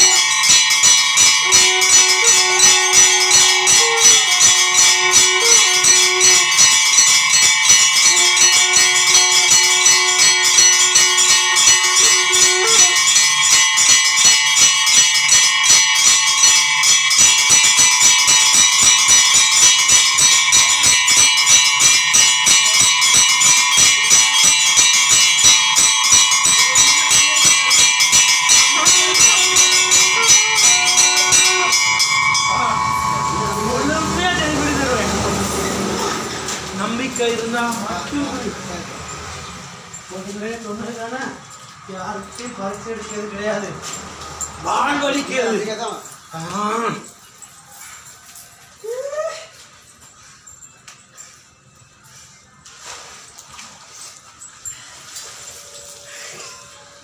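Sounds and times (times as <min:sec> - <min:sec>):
bells clanging rapidly: 0:00.0 - 0:57.0
held lower tone: 0:00.0 - 0:57.0.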